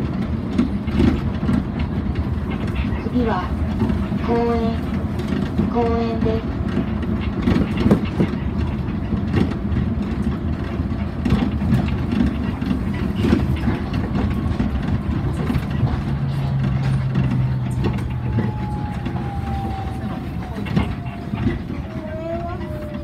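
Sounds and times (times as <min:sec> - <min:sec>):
people-mover car rumbling: 0:00.0 - 0:23.0.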